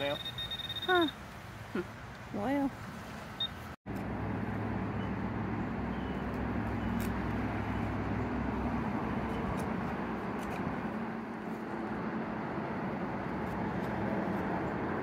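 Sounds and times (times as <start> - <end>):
low engine hum: 0.2 - 15.0.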